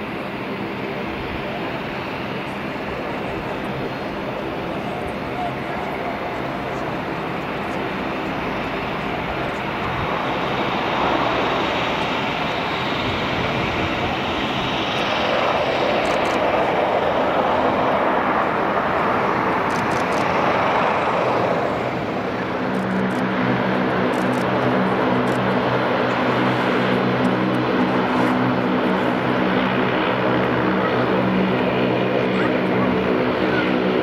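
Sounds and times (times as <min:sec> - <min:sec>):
turboprop engines and propellers: 0:00.0 - 0:34.0.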